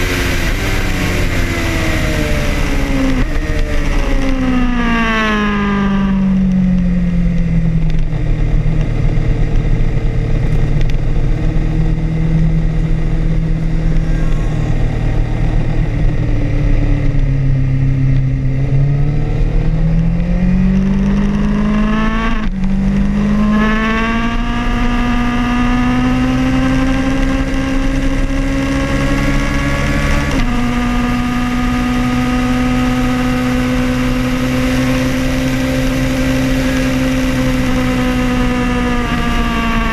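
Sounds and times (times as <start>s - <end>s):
gear change: 0.0s - 39.9s
motorcycle engine revving: 0.0s - 39.9s
wind and road noise: 0.0s - 39.9s.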